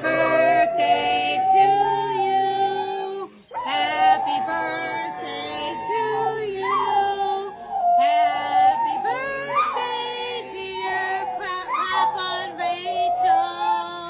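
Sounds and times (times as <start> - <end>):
dog howling: 0.0 - 14.0.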